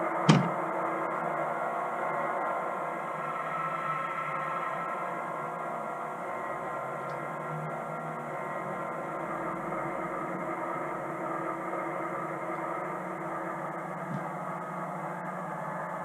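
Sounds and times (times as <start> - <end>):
model train hum and rumble: 0.0 - 16.0.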